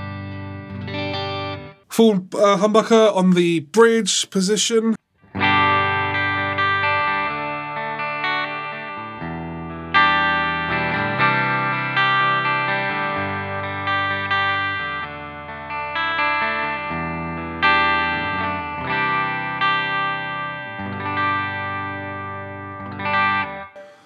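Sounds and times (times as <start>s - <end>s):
clean electric guitar chords: 0.0s - 1.8s, 5.3s - 24.0s.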